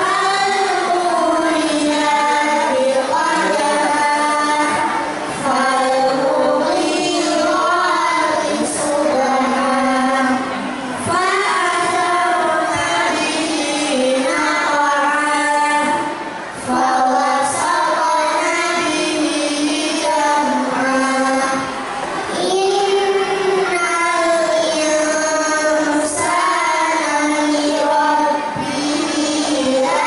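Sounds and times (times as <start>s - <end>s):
children singing in unison: 0.0s - 30.0s.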